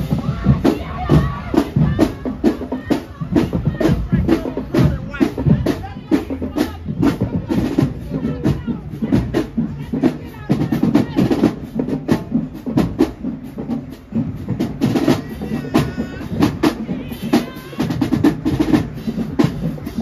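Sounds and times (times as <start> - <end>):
marching drumline playing: 0.0 - 20.0.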